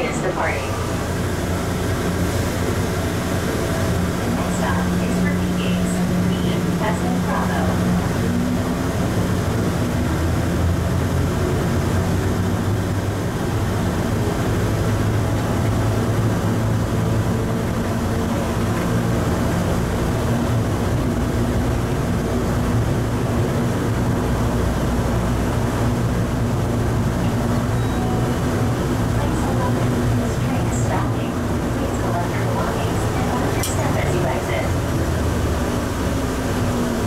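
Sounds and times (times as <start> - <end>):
low motor hum: 0.0 - 37.0
train running rumble: 0.0 - 37.0.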